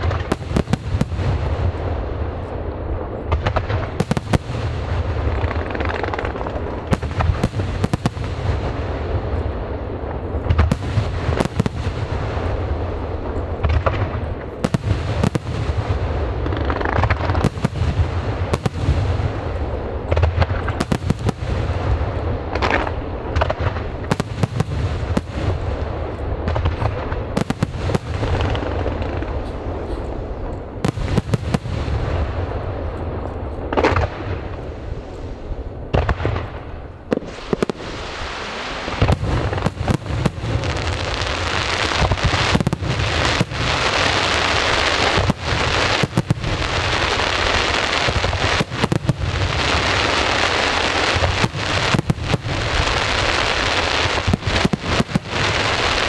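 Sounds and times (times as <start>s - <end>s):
fireworks hiss: 0.0s - 32.6s, 34.0s - 36.5s, 37.1s - 56.0s
fireworks bursting with sharp bangs: 0.0s - 56.0s.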